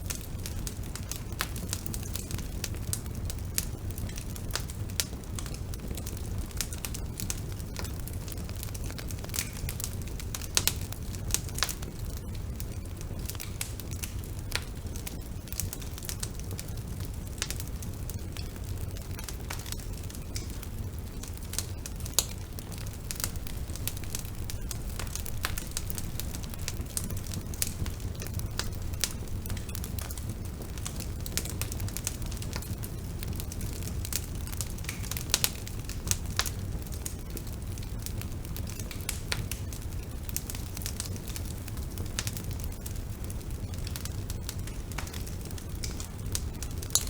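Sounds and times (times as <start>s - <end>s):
burning wood crackling and popping: 0.0s - 47.0s
low rumble of flame: 0.0s - 47.0s.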